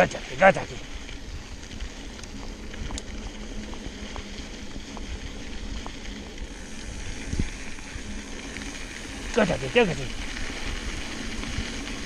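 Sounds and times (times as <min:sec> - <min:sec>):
mountain bike tyre noise: 0:00.0 - 0:12.0.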